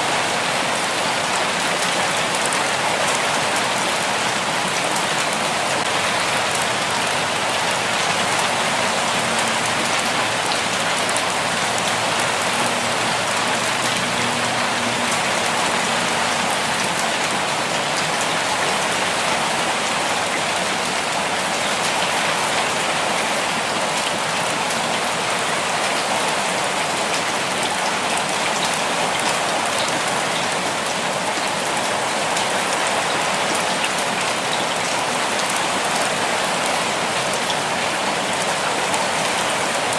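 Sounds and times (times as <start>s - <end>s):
steady rain hiss: 0.0s - 39.9s
raindrops pattering on a surface: 0.1s - 39.9s.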